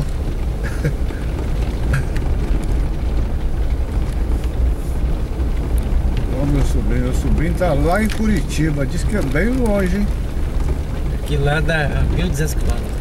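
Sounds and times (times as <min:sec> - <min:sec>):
engine and tyres rumbling: 0:00.0 - 0:13.0
knocks and rattles from rough road: 0:00.0 - 0:13.0.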